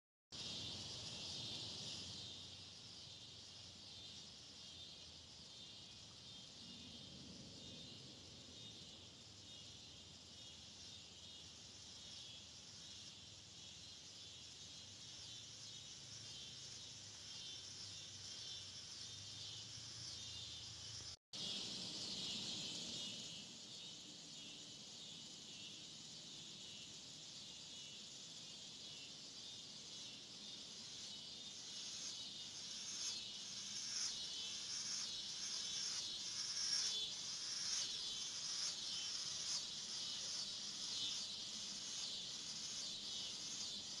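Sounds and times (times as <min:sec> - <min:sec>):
insects chorus shrilling: 0:00.4 - 0:44.0.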